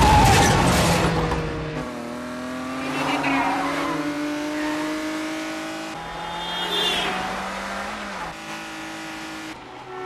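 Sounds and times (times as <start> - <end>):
car engine revving: 1.2 - 10.0.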